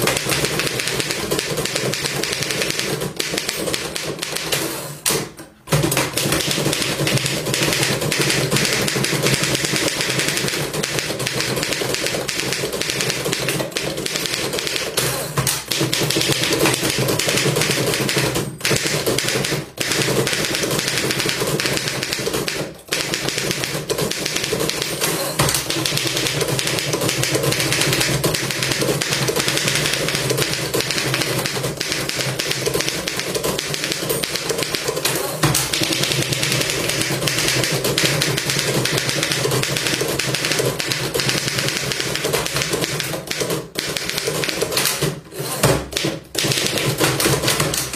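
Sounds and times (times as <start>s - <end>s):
typewriter keys clacking: 0.0s - 47.9s.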